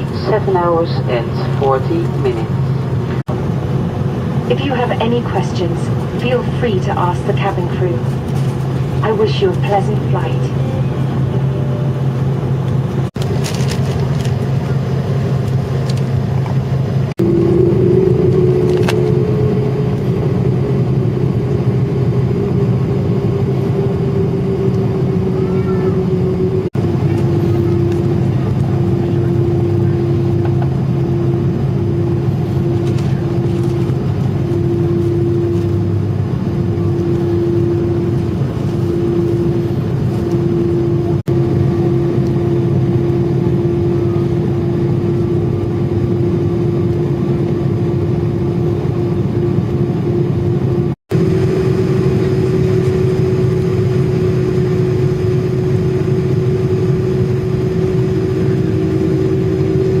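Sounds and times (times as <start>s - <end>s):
airliner cabin hum: 0.0s - 60.0s
whining tone: 5.4s - 13.1s, 17.2s - 60.0s.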